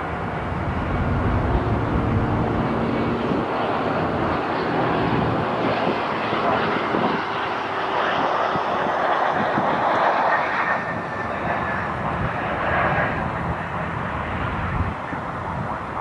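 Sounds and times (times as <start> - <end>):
jet engines at high power: 0.0 - 16.0.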